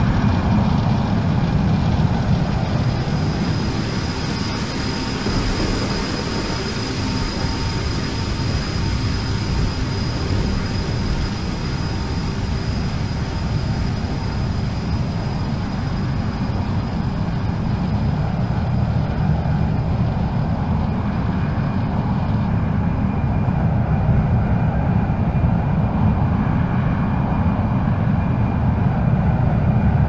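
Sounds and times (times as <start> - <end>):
jet engine noise of aircraft: 0.0 - 30.0.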